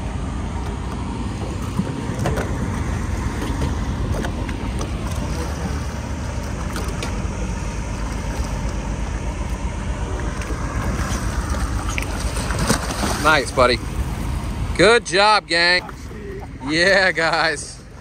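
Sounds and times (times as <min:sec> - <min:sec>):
wind and sea rumble: 0:00.0 - 0:18.0.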